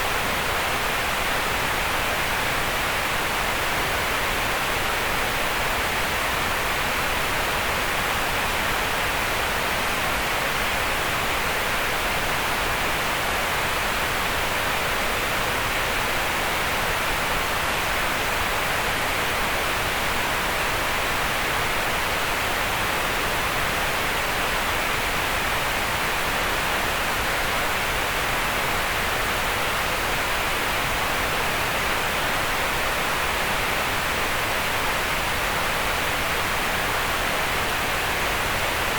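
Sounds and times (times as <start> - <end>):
steady green noise hiss: 0.0 - 38.9.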